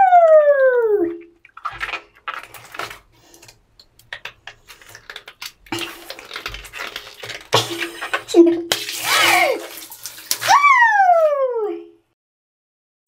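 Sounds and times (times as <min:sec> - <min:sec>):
wet rubber balloons squeaking: 0:00.0 - 0:11.4.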